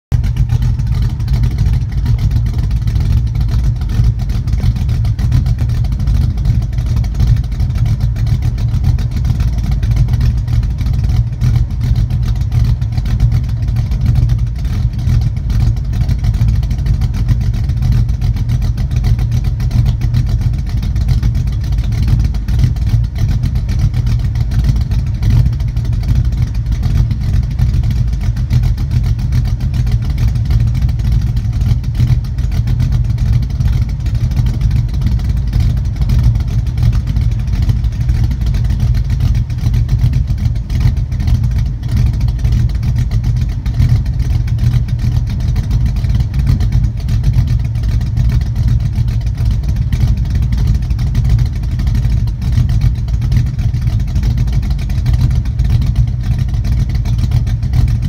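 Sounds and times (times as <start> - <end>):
car engine idling: 0.1 - 58.0.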